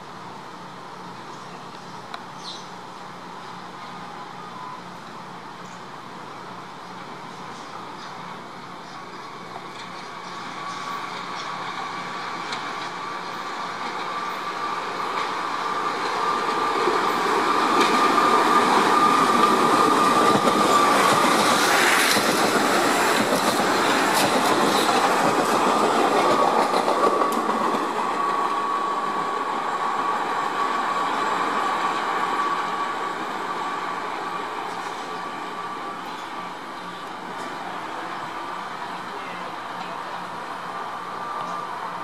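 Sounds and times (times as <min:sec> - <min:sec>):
subway train passing: 0:00.0 - 0:42.0.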